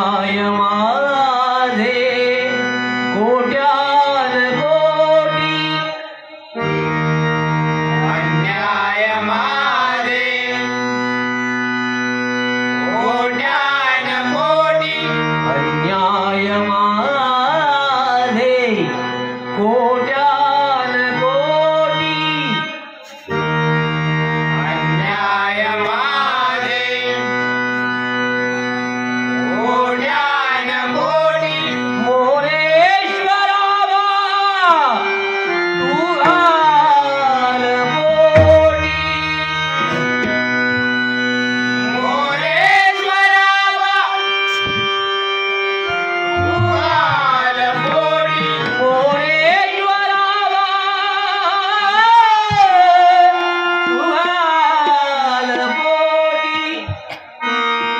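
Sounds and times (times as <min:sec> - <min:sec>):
harmonium notes: 0:00.0 - 0:57.9
man singing devotional song: 0:00.0 - 0:57.9.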